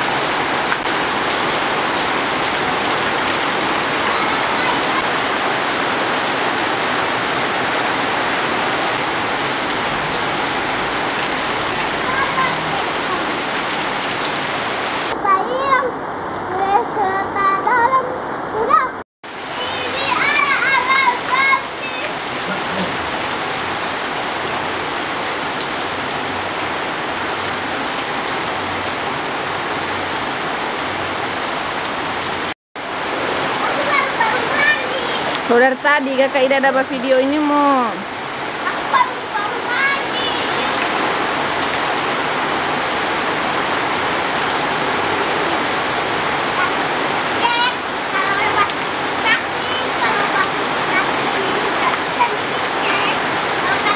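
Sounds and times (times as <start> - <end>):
heavy rain on roof tiles: 0.0 - 53.9.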